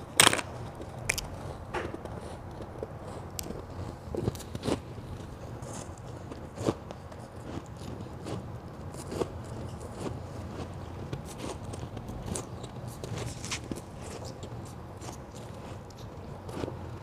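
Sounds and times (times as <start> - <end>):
chewing ice crunches: 0.0 - 17.0.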